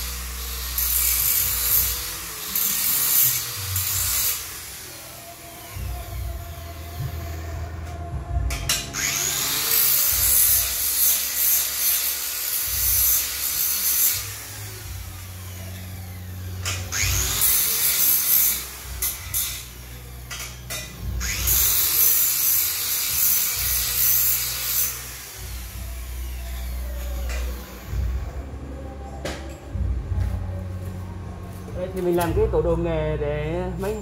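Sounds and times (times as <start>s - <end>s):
angle grinder on steel: 0.0s - 7.9s, 8.5s - 28.1s.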